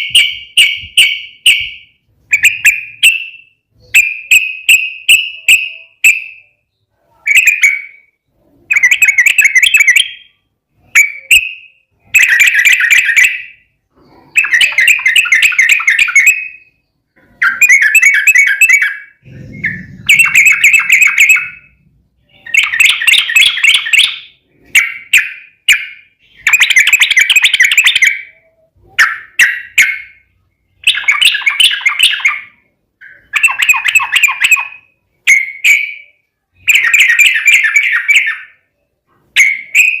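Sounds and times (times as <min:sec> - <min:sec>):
bird singing bubbling phrases: 0:00.0 - 0:38.6.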